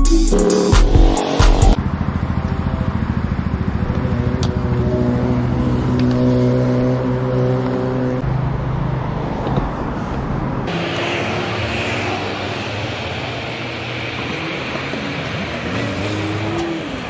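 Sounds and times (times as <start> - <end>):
engine running: 0.4 - 17.0.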